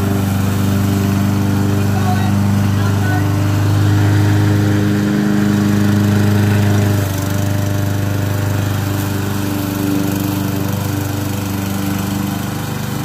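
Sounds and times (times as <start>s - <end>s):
lawn mower cutting grass: 0.0s - 13.0s.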